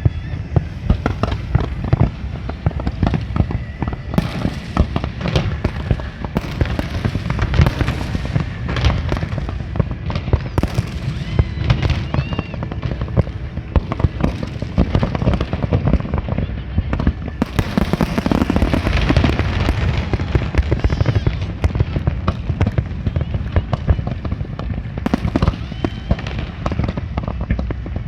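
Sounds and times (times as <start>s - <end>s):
fireworks bangs and crackling: 0.0s - 28.0s
steady low rumble: 0.0s - 28.0s.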